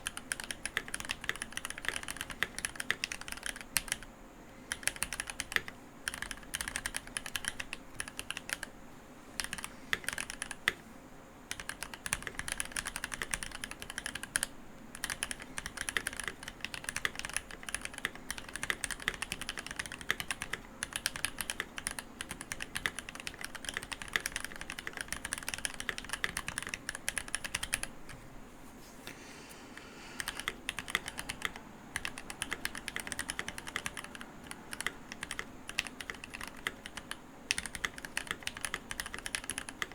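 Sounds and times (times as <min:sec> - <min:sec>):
mechanical keyboard typing: 0:00.0 - 0:04.1, 0:04.7 - 0:08.7, 0:09.4 - 0:10.8, 0:11.5 - 0:28.2, 0:30.3 - 0:39.9.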